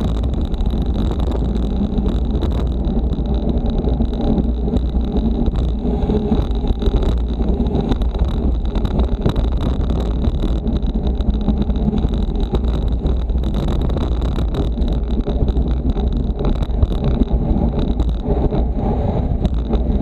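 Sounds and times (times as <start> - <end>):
tyre and road rumble: 0.0 - 20.0
wind on microphone: 0.0 - 20.0.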